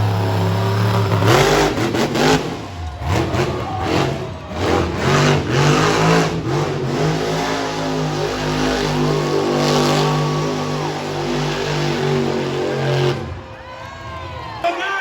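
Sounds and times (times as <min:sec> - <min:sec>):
truck engine revving: 0:00.0 - 0:13.6.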